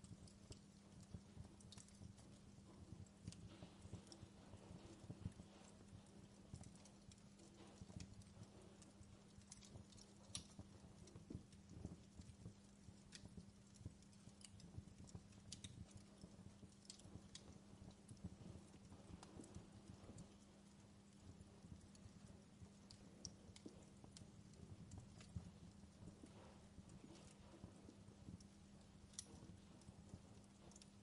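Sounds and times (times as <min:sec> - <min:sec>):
faint fireplace crackling: 0:00.0 - 0:31.0
steady low hum: 0:00.0 - 0:31.0.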